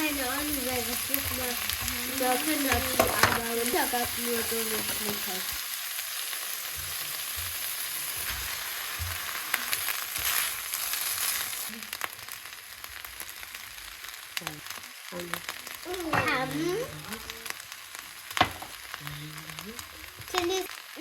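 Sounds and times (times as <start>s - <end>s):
fried rice sizzling in a pan: 0.0s - 21.0s.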